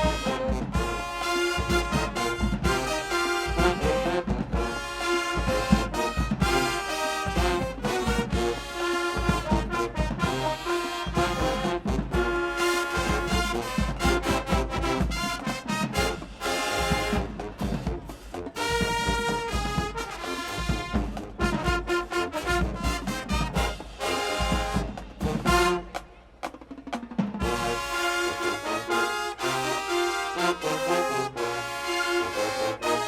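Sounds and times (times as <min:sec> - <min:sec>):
marching band brass: 0:00.0 - 0:33.0.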